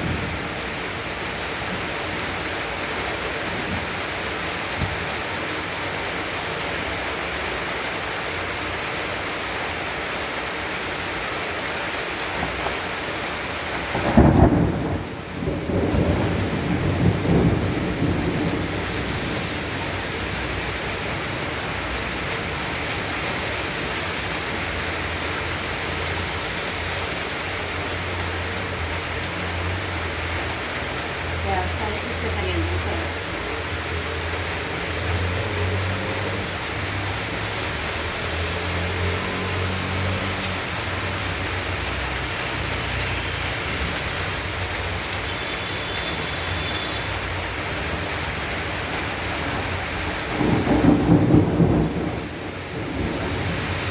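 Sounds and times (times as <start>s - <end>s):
heavy rain downpour: 0.0s - 53.9s.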